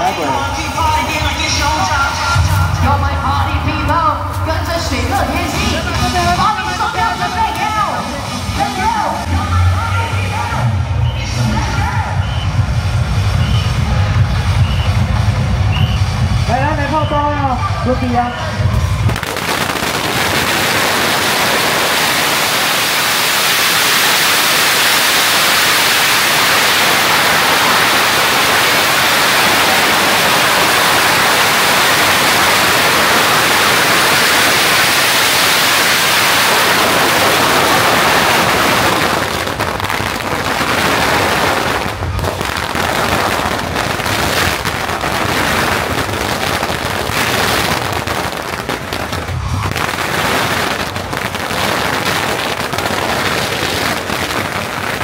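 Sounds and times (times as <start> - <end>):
firecrackers crackling and banging: 0.0 - 55.0.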